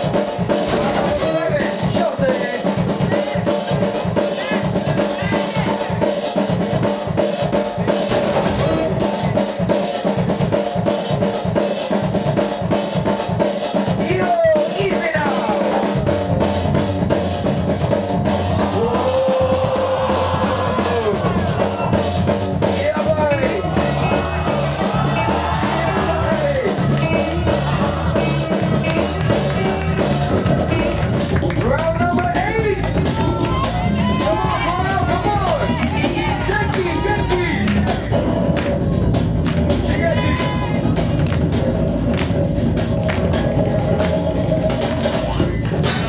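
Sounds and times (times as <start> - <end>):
bass line: 0.0 - 6.0, 7.8 - 9.4, 15.2 - 46.0
breakbeat music: 0.0 - 46.0.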